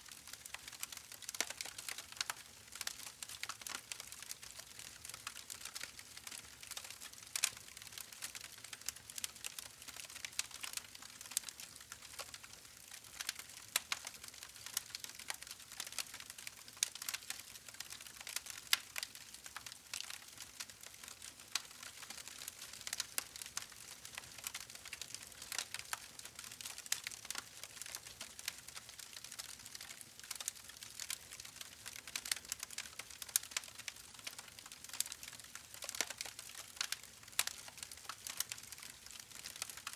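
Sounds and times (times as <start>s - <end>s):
wood fire crackling: 0.2s - 39.9s.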